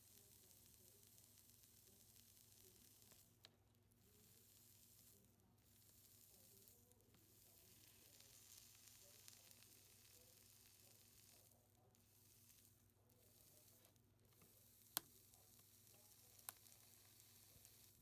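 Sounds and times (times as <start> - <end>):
faint fizzing hiss: 0.0 - 18.0.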